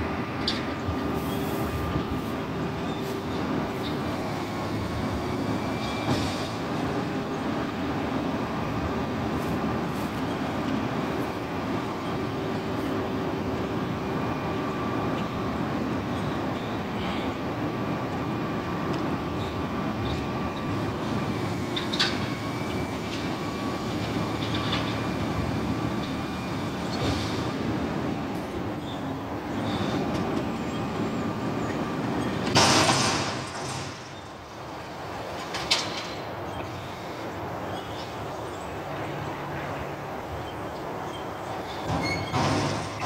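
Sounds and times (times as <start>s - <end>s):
garbage truck diesel engine running: 0.0s - 35.4s.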